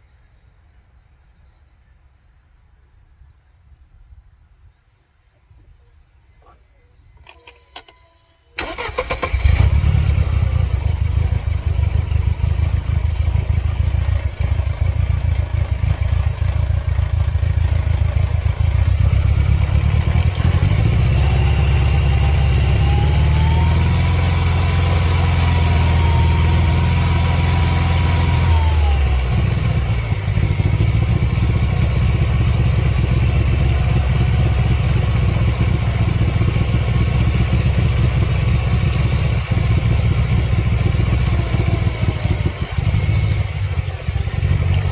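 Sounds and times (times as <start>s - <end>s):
car engine starting and running: 8.6s - 44.9s
engine whine at high revs: 8.6s - 44.9s.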